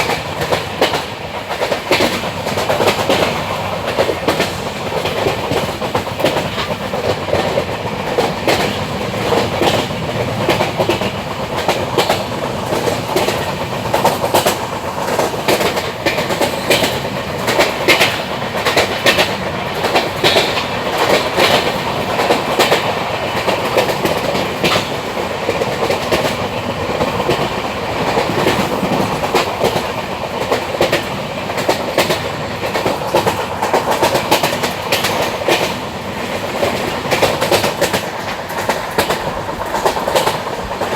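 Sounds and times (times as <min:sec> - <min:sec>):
train wheels rumbling on rails: 0:00.0 - 0:40.9
wheels clacking on track: 0:00.0 - 0:40.9.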